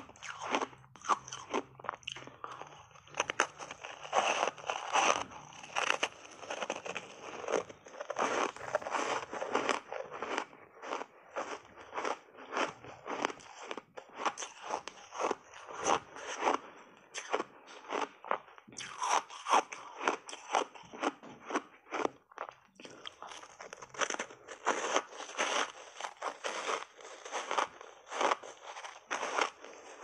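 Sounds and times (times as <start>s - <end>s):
ice bar crunching when chewed: 0.0s - 30.0s.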